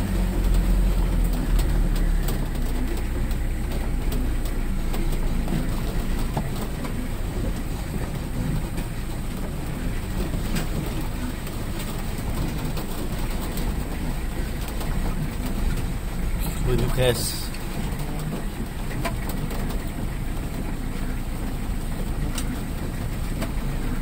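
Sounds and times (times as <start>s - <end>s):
car engine and road rumble: 0.0s - 24.0s
car interior rattling and knocking: 0.0s - 24.0s.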